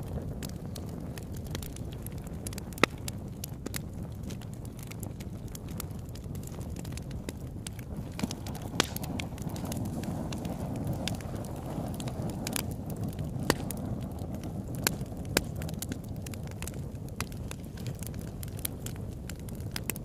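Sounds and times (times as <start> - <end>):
fire crackling pops: 0.0 - 20.0
fire rumbling: 0.0 - 20.0.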